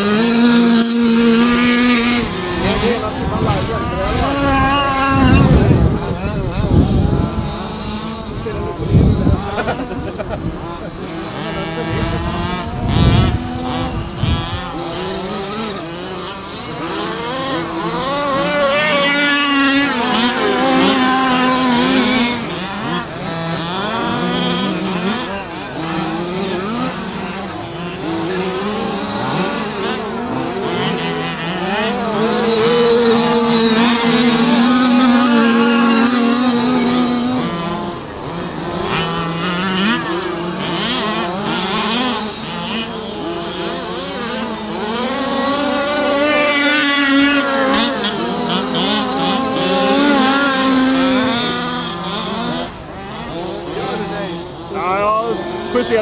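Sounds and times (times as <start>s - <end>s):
small two-stroke engines whining: 0.0s - 56.0s.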